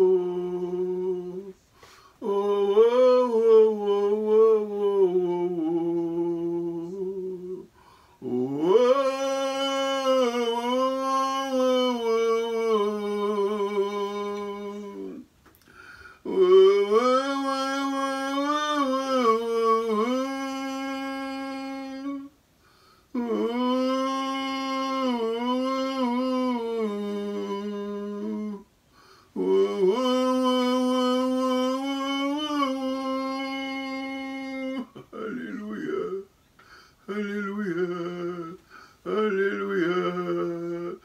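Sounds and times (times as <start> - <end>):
man humming a melody: 0.0 - 1.6, 2.2 - 15.3, 16.2 - 22.4, 23.1 - 28.7, 29.3 - 36.3, 37.0 - 41.0.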